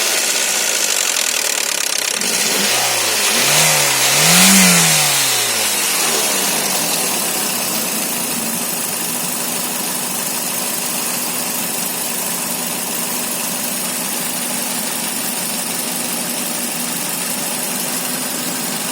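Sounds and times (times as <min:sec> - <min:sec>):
car engine idling with knock: 0:00.0 - 0:18.9.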